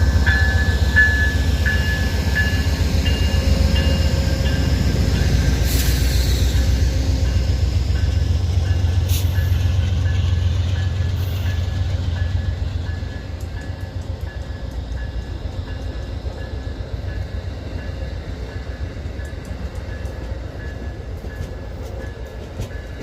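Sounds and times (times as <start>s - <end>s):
diesel train rumble: 0.0s - 23.0s.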